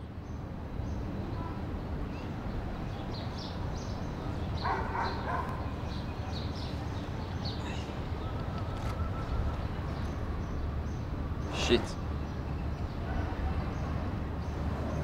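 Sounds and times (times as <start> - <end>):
outdoor background ambience: 0.0 - 15.0
small birds chirping: 0.0 - 15.0.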